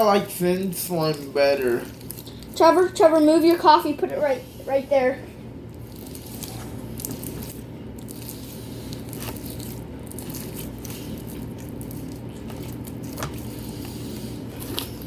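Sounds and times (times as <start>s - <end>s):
low room hum: 0.0s - 15.0s
wet slime squishing: 0.0s - 15.0s.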